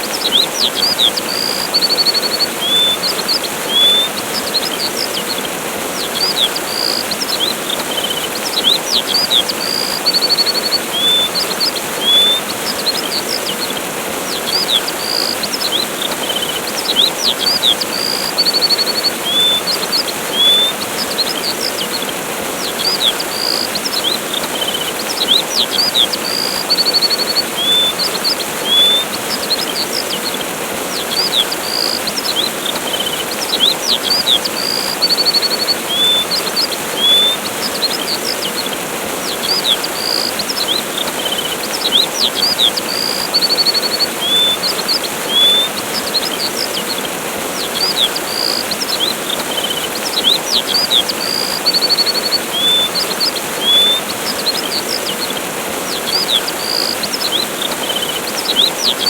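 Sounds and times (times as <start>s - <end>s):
small birds chirping: 0.0s - 59.0s
waterfall rushing: 0.0s - 59.0s.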